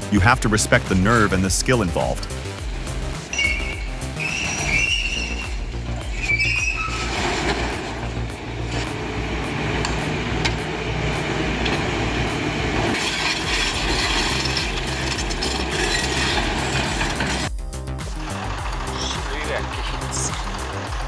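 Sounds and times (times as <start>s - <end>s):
diesel engine running: 0.0s - 21.0s
metallic clanking and rattling: 0.3s - 21.0s.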